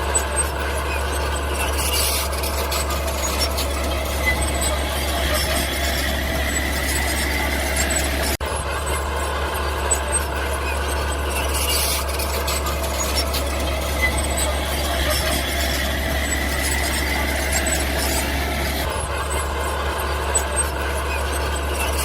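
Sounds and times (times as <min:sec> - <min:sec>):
bulldozer engine drone: 0:00.0 - 0:22.0.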